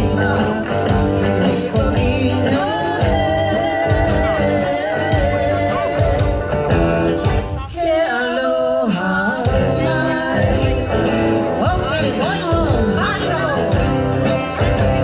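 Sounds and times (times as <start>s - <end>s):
song with singing and guitar: 0.0s - 15.0s.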